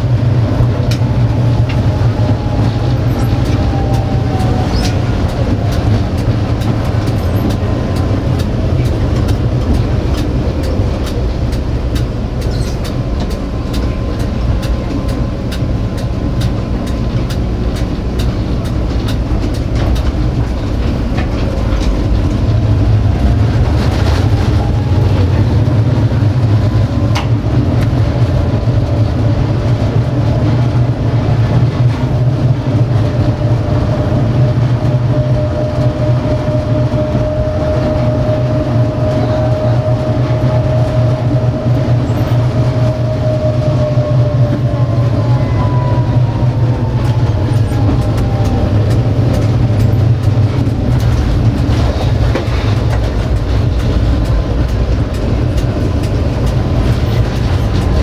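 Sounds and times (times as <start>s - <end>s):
tram motor whine: 0.0s - 58.0s
tram running gear rumble: 0.0s - 58.0s.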